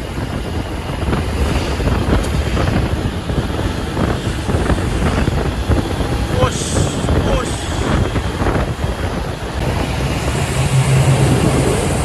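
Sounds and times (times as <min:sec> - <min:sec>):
truck engine rumbling: 0:00.0 - 0:12.0
wind buffeting microphone: 0:00.0 - 0:12.0.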